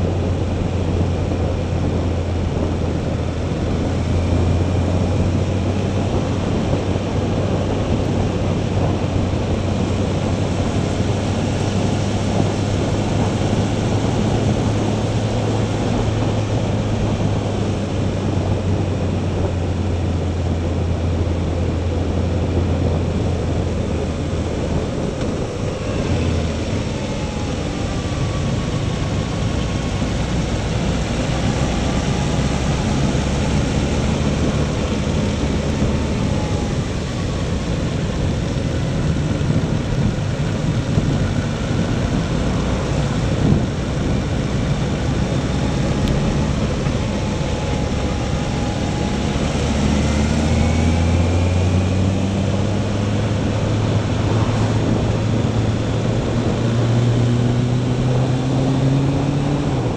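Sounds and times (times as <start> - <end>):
motorcycle engine running: 0.0 - 59.9
wind rushing: 0.0 - 59.9.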